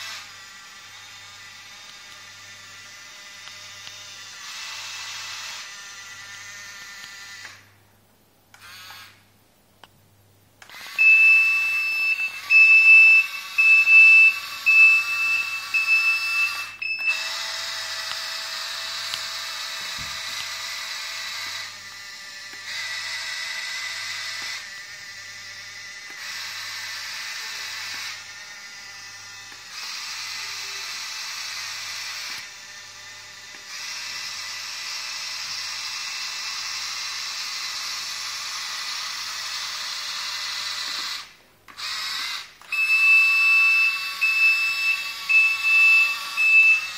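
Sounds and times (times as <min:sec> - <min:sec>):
electric motors whining: 0:00.0 - 0:07.7, 0:10.6 - 0:46.9.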